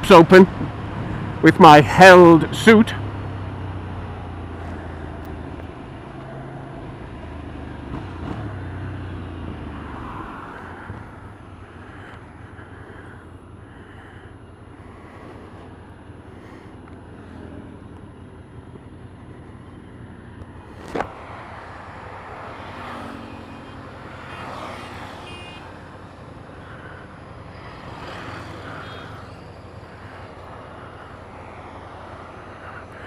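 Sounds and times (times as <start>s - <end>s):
motorcycle engine: 2.9s - 33.0s.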